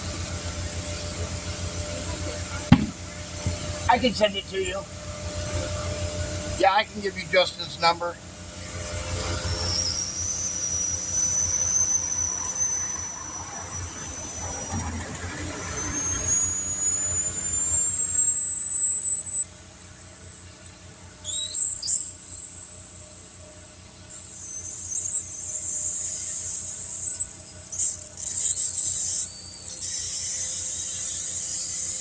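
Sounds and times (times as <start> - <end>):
pneumatic air whine: 0.0 - 32.0.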